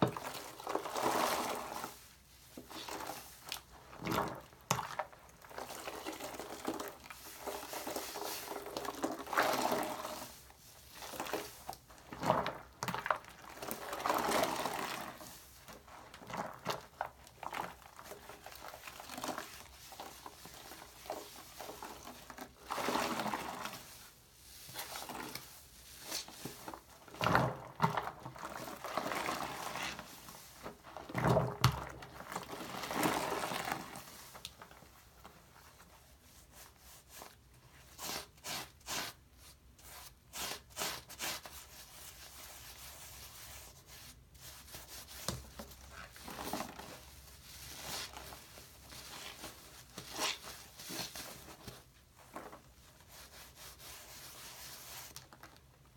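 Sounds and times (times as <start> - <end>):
sponge squishing lather: 0.0 - 55.9.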